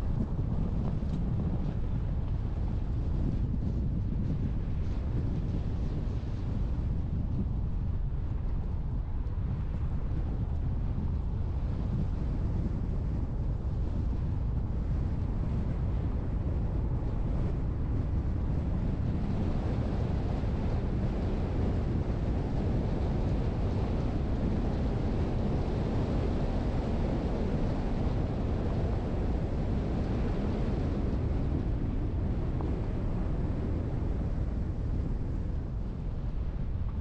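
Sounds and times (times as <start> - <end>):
wind noise: 0.0 - 37.0.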